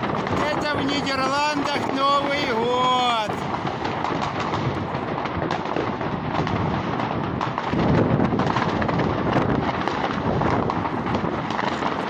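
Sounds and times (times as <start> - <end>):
low firework boom: 0.0 - 2.6, 3.2 - 12.0
fireworks crackling and banging: 0.0 - 12.0.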